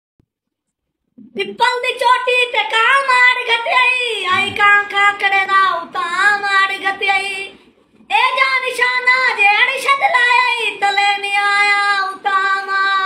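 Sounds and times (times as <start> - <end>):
boy singing: 1.4 - 13.0.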